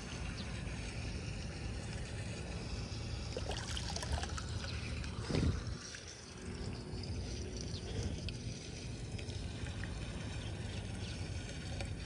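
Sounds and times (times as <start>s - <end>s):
water draining into storm drain: 0.0s - 12.0s
water gurgling: 0.0s - 12.0s
small water splashes: 0.2s - 12.0s.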